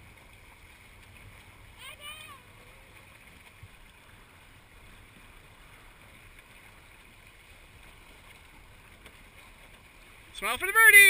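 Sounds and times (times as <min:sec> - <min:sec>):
water washing along a hull: 0:00.0 - 0:11.0.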